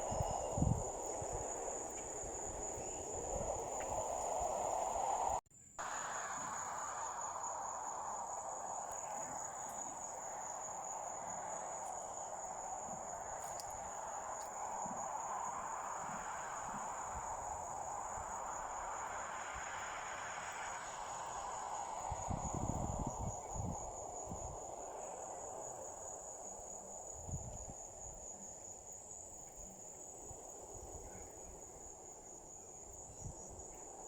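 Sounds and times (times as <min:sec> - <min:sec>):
insects trilling: 0:00.0 - 0:34.0
soft rushing background: 0:00.0 - 0:34.0.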